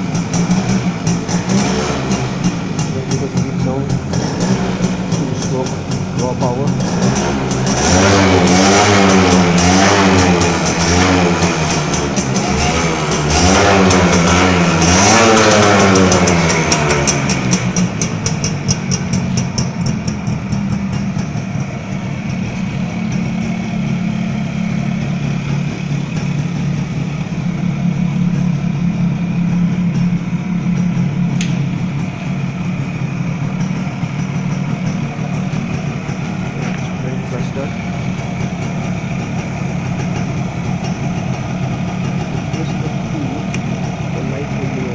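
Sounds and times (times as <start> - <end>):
motorcycle engine revving and idling: 0.0 - 44.9.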